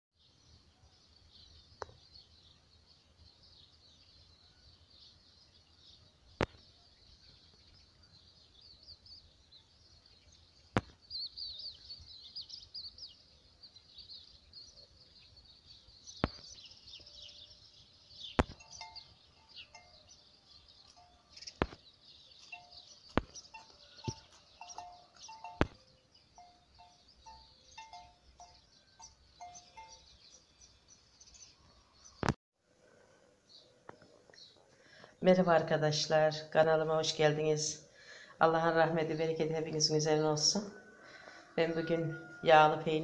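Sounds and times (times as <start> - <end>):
small birds twittering: 0.2 - 43.0.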